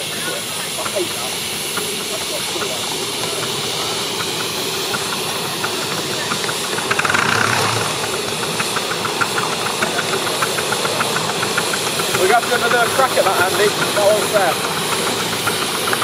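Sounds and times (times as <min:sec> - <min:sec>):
steam hissing: 0:00.0 - 0:16.0
steam locomotive rush: 0:00.0 - 0:16.0
regular rail clicks: 0:00.4 - 0:16.0.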